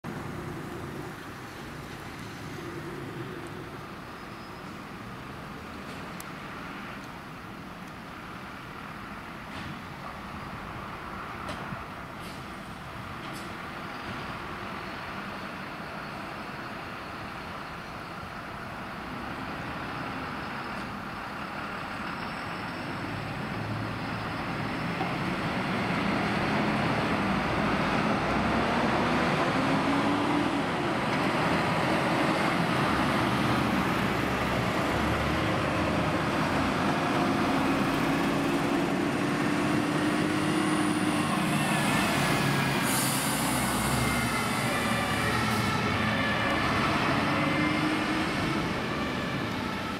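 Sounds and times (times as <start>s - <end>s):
fire engines driving past: 0.0s - 49.9s.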